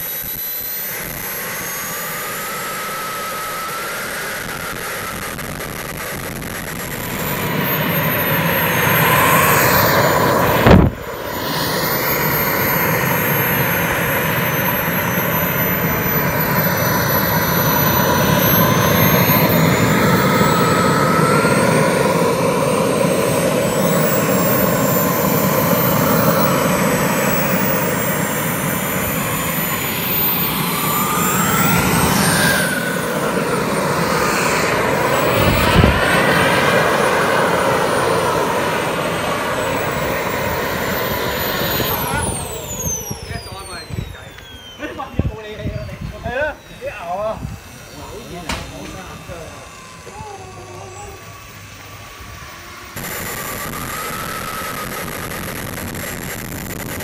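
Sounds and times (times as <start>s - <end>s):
model jet turbine whine: 0.0s - 57.0s.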